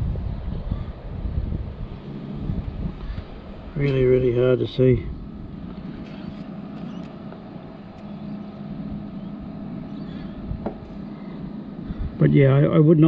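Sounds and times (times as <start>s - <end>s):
fridge compressor and fan running: 0.0s - 13.0s.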